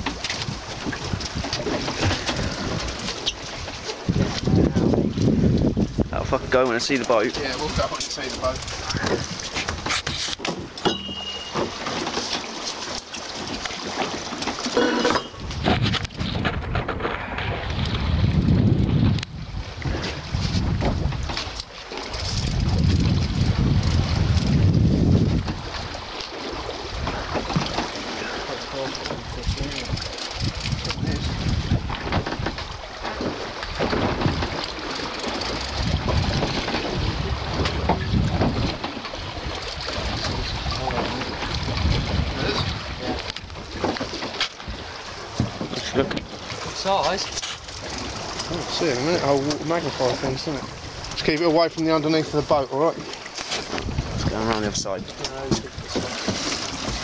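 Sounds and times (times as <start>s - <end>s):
wind buffeting microphone: 0.0s - 10.8s, 15.3s - 57.0s
sea water washing around boat: 0.0s - 57.0s.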